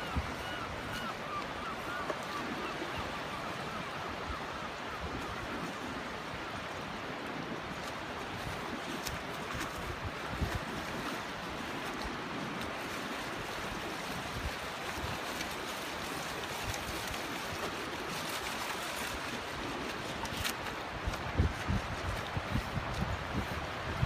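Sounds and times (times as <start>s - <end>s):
wind buffeting microphone: 0.0s - 15.8s, 19.0s - 24.0s
surf washing over beach: 0.0s - 24.0s.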